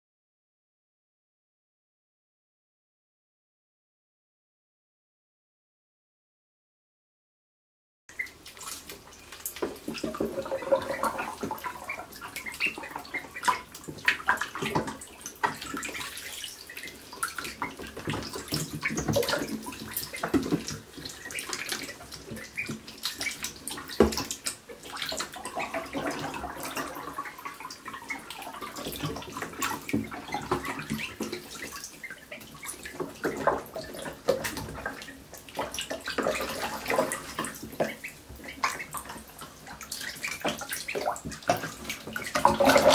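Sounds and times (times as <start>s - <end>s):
ducklings splashing in water: 8.1s - 42.9s.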